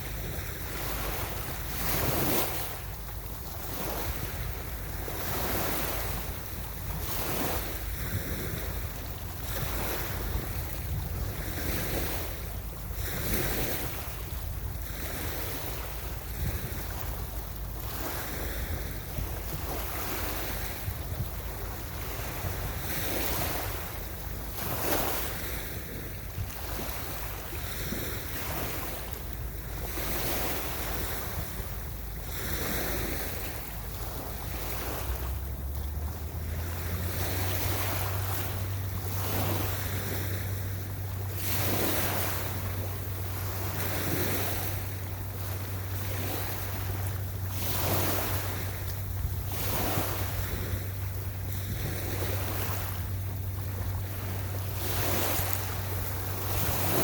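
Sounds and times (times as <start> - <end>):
waves breaking on a beach: 0.0 - 57.0
wind buffeting microphone: 0.0 - 57.0
low steady hum: 2.7 - 57.0.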